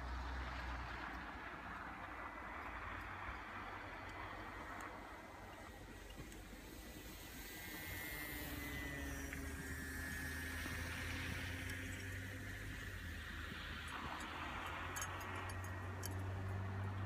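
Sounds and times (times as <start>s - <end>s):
wind rumble on microphone: 0.0s - 17.0s
high motor whine: 1.3s - 17.0s.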